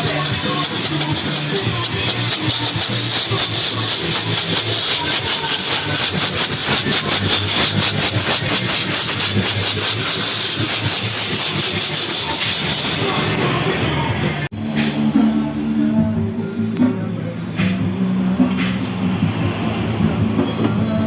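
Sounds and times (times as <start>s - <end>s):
steady loud hiss: 0.0s - 20.9s
background music with even beat: 0.0s - 21.0s.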